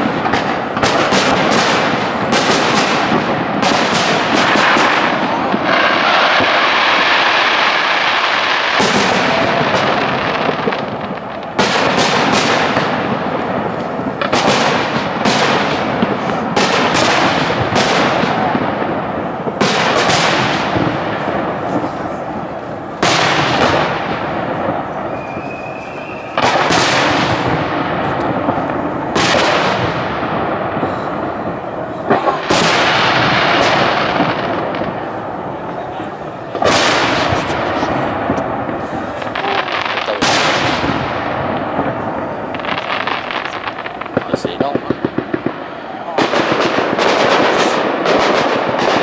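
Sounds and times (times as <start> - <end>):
fireworks bangs with echoing rumble: 0.0 - 49.0.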